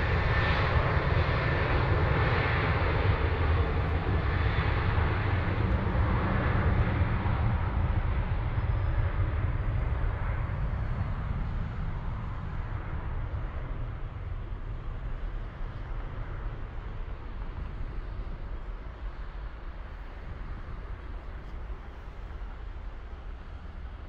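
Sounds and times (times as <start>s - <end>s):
distant jet engines rumbling: 0.0s - 24.0s.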